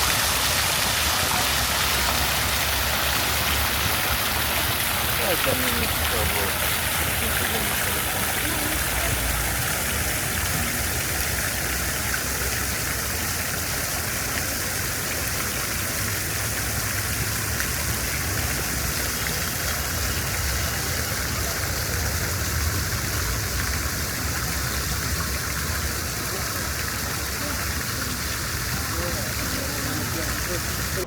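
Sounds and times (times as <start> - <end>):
low rumble of city traffic: 0.0 - 31.0
rain hissing: 0.0 - 31.0.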